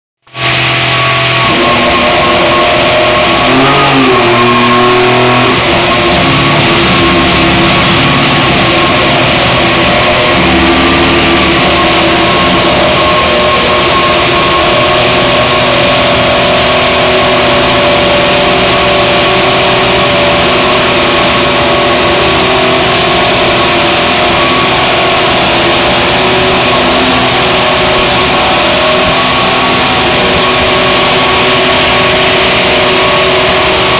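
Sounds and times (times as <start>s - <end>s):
racing car engine running: 0.2s - 33.9s.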